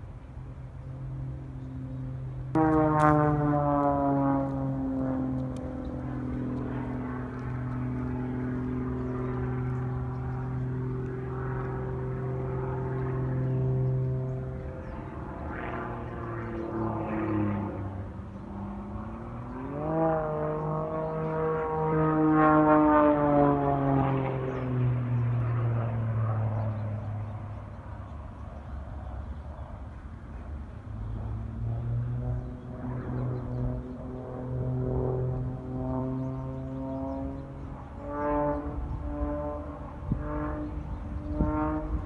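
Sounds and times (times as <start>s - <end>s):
aircraft engine droning overhead: 0.0s - 42.0s.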